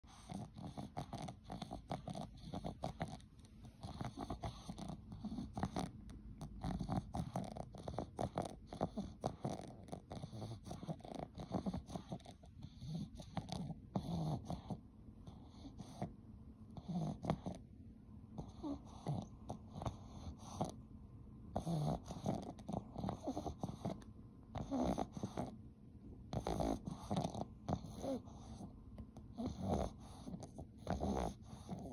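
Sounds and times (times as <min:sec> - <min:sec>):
dog snoring and snuffling: 0:00.1 - 0:17.7, 0:18.3 - 0:20.8, 0:21.5 - 0:25.6, 0:26.2 - 0:31.9.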